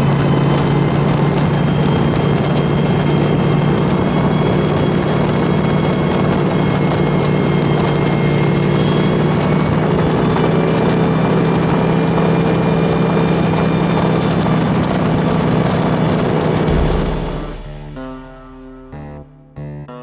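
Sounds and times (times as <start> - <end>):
hovercraft engine and propeller drone: 0.0 - 17.6.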